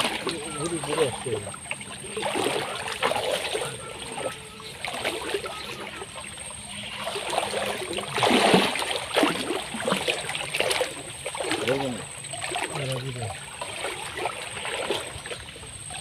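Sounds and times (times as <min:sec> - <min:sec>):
muddy water sloshing and splashing: 0:00.0 - 0:16.0.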